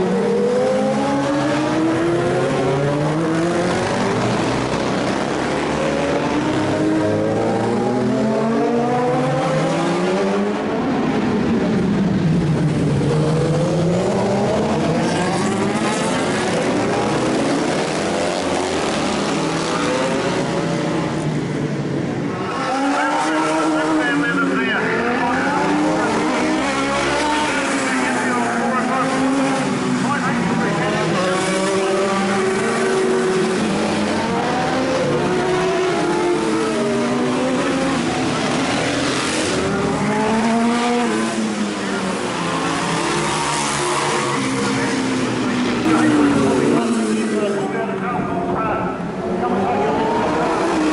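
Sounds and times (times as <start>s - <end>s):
racing motorcycles passing: 0.0s - 50.9s.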